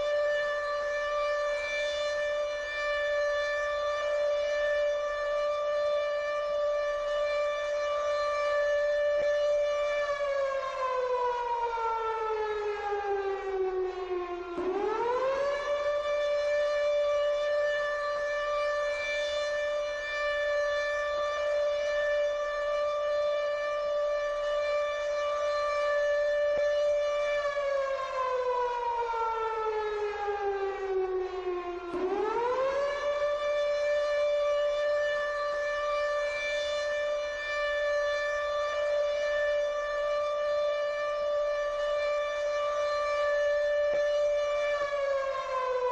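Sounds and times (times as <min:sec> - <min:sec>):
civil defense siren wailing: 0:00.0 - 0:45.9.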